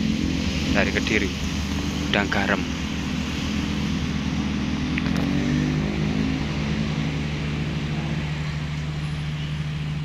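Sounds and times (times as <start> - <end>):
engine low hum: 0.0 - 10.0
engine note shifting in pitch: 0.0 - 10.0.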